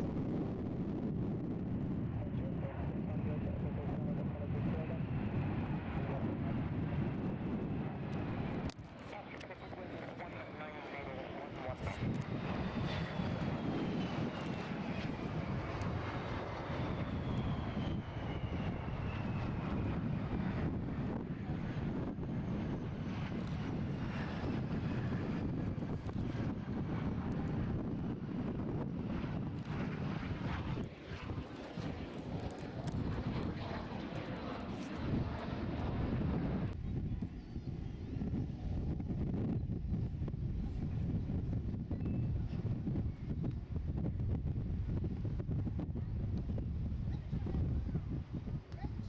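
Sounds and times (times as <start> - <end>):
wind on microphone: 0.0 - 49.0
plane engine flying past: 0.1 - 49.0.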